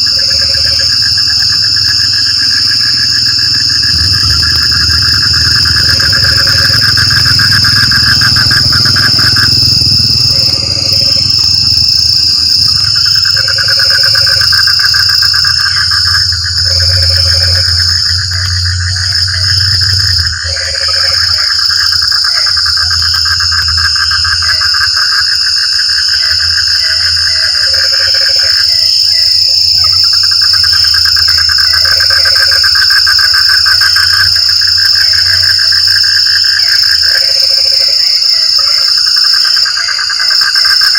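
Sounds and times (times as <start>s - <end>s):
frog croaks: 0.0s - 40.9s
frogs trilling: 0.0s - 40.9s
high-pitched insect buzz: 0.0s - 40.9s.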